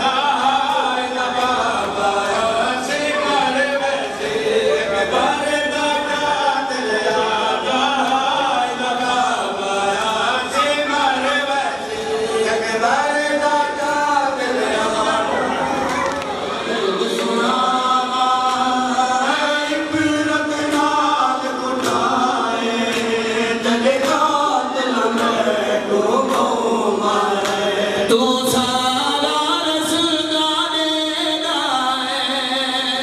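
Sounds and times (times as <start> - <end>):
men chanting over a microphone: 0.0 - 33.0.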